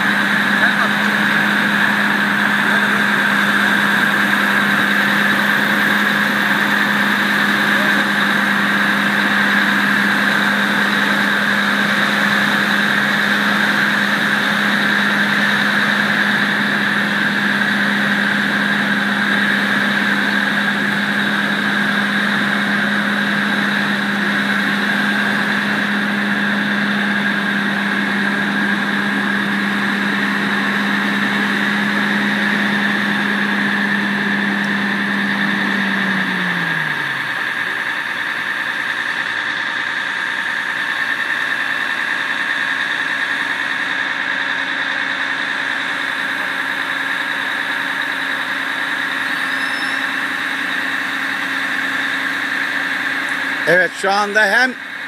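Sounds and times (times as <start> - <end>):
steady whine: 0.0 - 55.0
truck engine running: 0.0 - 55.0.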